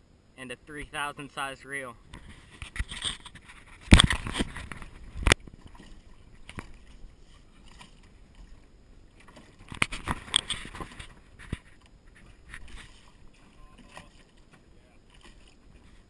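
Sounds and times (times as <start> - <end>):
water splashing against boat: 0.7 - 16.0.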